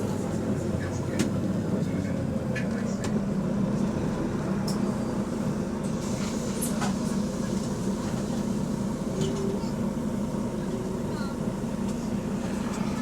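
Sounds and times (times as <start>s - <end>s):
bus engine and road drone: 0.0s - 13.0s.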